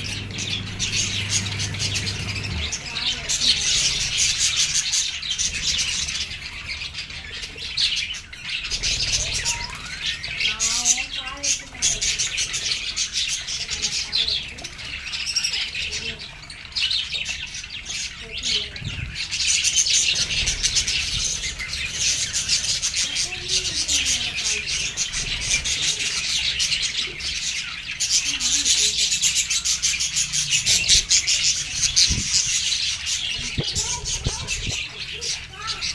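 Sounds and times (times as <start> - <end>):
budgerigars chattering: 0.0 - 35.9.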